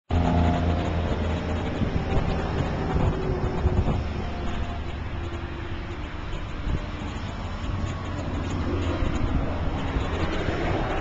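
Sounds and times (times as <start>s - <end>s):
vehicle engine humming: 0.1s - 11.0s
wind noise on microphone: 0.1s - 11.0s.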